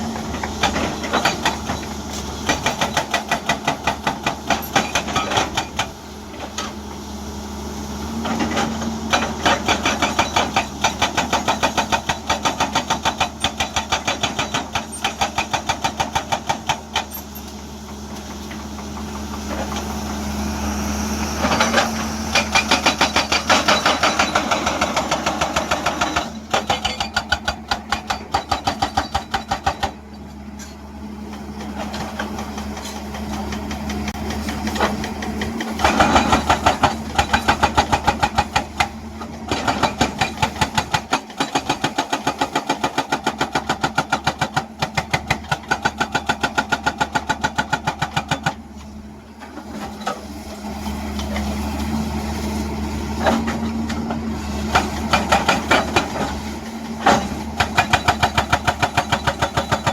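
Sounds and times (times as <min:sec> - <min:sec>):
hydraulic breaker pounding rock: 0:00.0 - 0:07.0, 0:08.1 - 0:20.4, 0:21.3 - 0:59.9
diesel engine running: 0:00.0 - 0:59.9.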